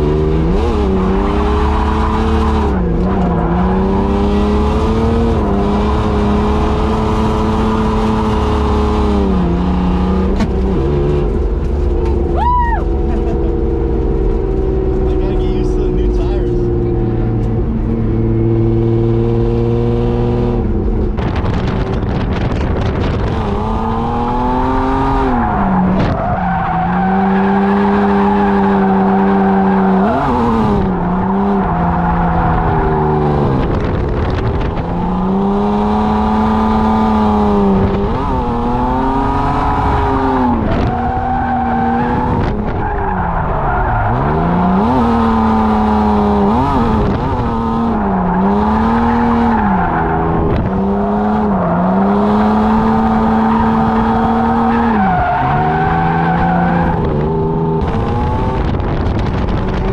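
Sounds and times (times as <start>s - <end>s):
car engine revving hard: 0.0s - 11.9s, 12.9s - 59.9s.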